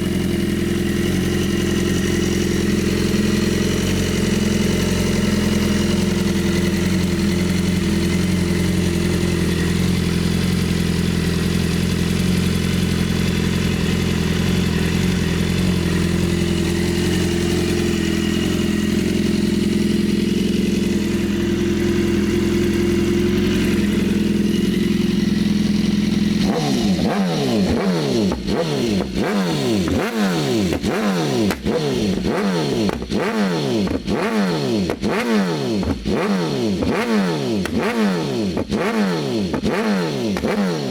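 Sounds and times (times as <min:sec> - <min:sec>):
motorcycle engine idling: 0:00.0 - 0:40.9
motorcycle throttle blips: 0:00.0 - 0:40.9.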